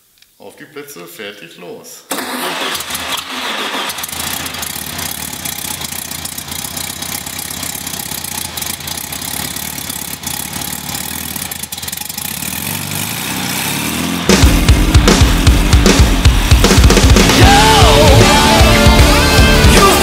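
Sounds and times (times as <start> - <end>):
air-cooled car engine running: 2.1 - 20.0.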